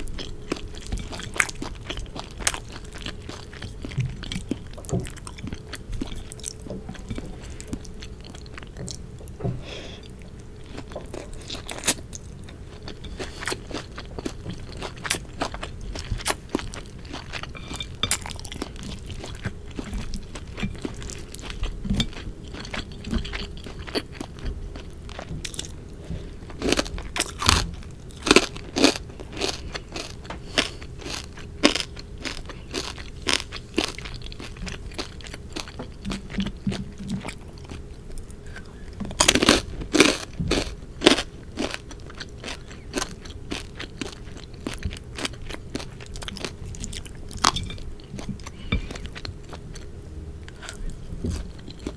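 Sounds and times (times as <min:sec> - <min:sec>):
person chewing and crunching: 0:00.0 - 0:51.9.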